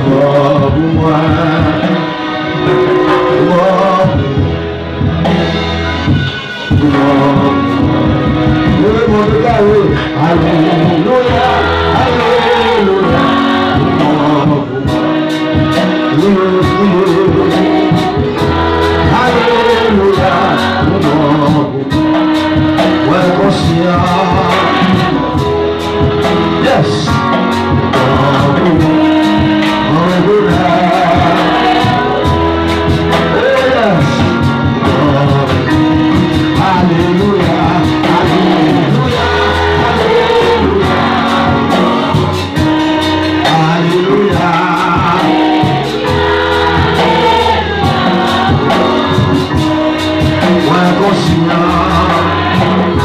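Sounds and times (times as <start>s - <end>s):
gospel singing: 0.0s - 53.0s
guitar accompaniment: 0.0s - 53.0s.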